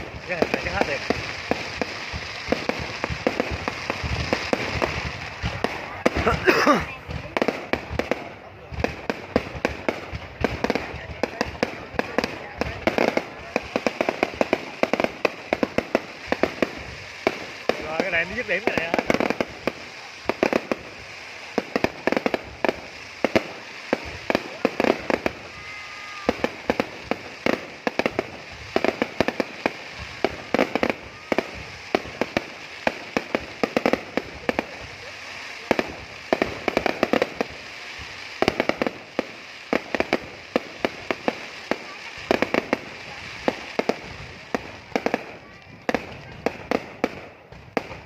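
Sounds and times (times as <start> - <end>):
fireworks bangs and crackles: 0.0 - 48.0
steady hiss: 0.0 - 48.0.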